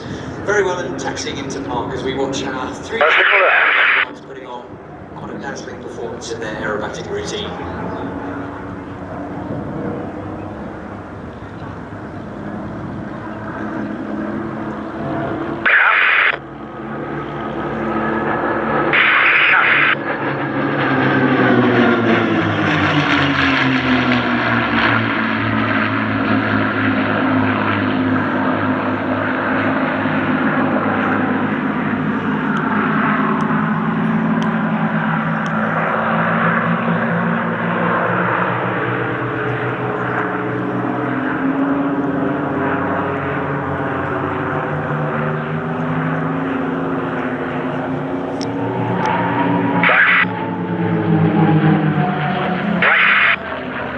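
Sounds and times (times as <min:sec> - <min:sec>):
propeller aircraft flying past: 0:00.0 - 0:53.9.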